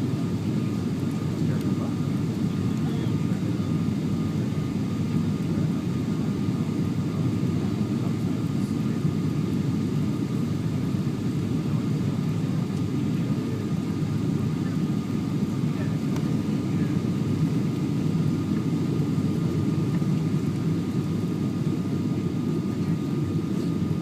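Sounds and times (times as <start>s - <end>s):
engine and airflow rumble: 0.0s - 24.0s.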